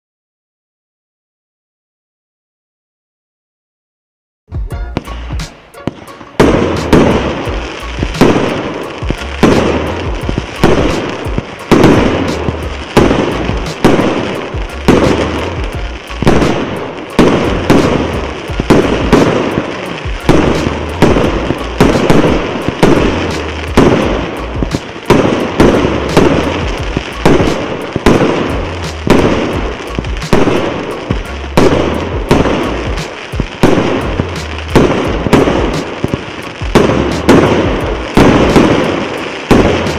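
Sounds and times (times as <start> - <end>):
fireworks bangs: 4.6 - 39.9.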